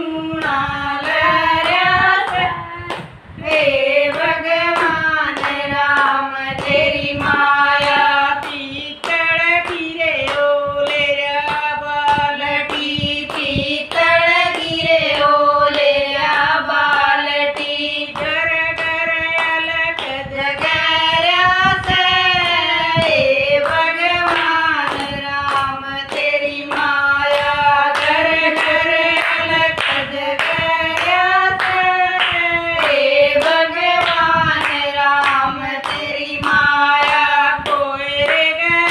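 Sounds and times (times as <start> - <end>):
women singing folk song: 0.0 - 38.9
hand claps: 0.3 - 38.9.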